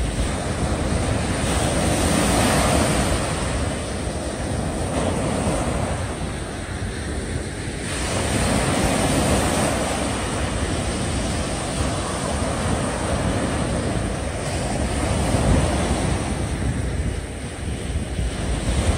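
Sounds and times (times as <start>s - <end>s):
sea waves washing against breakwater: 0.0s - 18.9s
wind rumbling on microphone: 0.0s - 18.9s.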